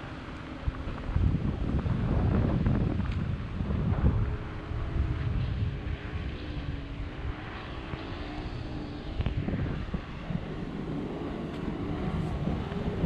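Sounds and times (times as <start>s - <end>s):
speedboat engine drone: 0.0s - 13.0s
wind buffeting microphone: 0.0s - 13.0s.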